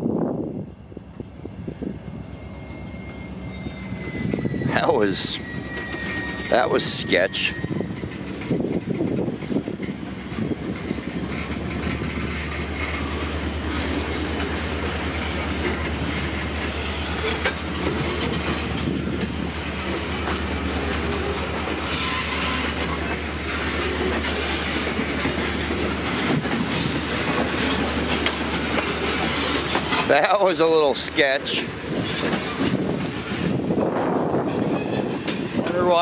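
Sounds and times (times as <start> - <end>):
train wheels clacking on rail joints: 5.5 - 36.0.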